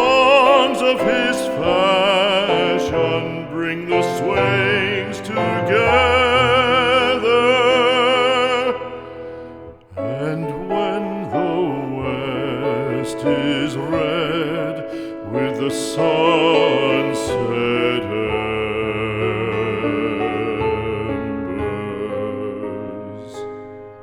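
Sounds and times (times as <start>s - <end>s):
classical solo voice singing: 0.0s - 24.0s.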